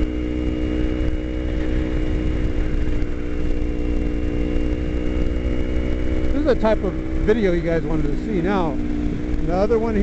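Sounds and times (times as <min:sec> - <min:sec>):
motorcycle engine running: 0:00.0 - 0:10.0
wind noise rumble: 0:00.0 - 0:10.0.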